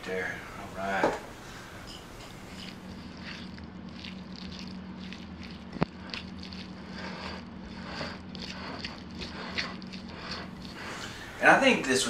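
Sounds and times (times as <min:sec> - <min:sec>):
steady low hum: 0:00.0 - 0:12.0
whisk scraping a ceramic bowl: 0:01.9 - 0:12.0.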